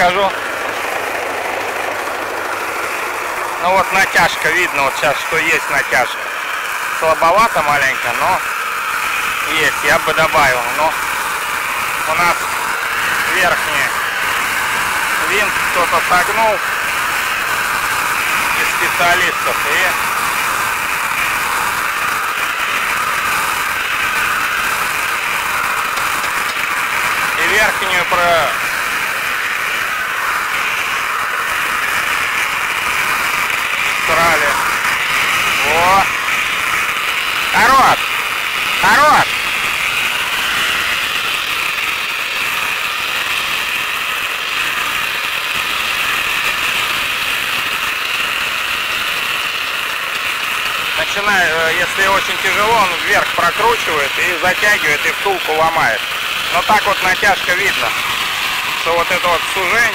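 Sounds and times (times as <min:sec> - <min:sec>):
bale wrapper machine running: 0:00.0 - 0:59.9.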